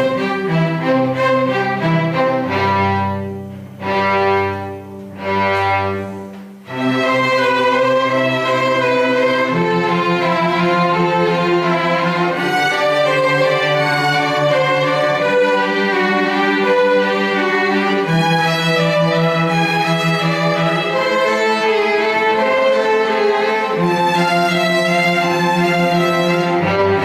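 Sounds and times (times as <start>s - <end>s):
string ensemble playing: 0.0s - 27.0s.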